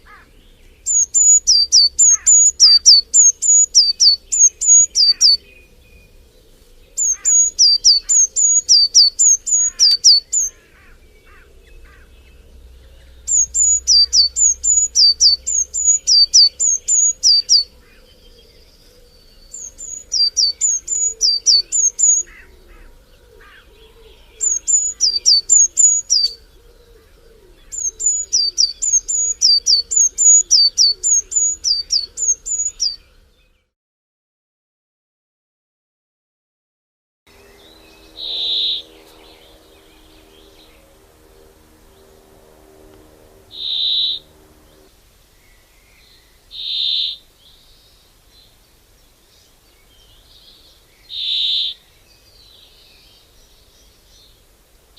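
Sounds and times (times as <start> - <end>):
bird calling high down-slurred notes: 0.0 - 33.1, 37.3 - 44.9, 45.6 - 47.3, 50.1 - 51.9
faint bird chirps: 0.0 - 33.7, 37.3 - 41.0, 43.5 - 54.4.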